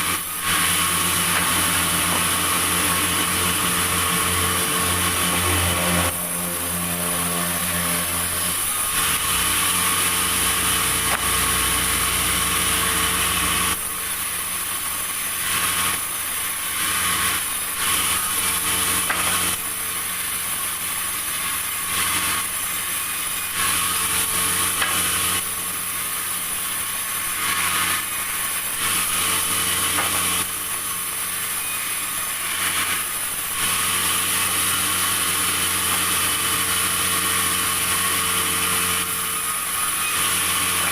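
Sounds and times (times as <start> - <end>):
machine hum: 0.0 - 40.9
saw cutting wood: 0.0 - 40.9.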